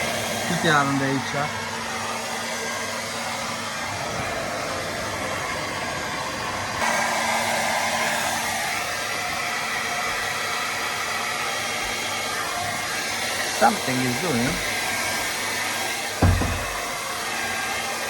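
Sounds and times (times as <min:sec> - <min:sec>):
hair dryer blowing air: 0:00.0 - 0:18.0.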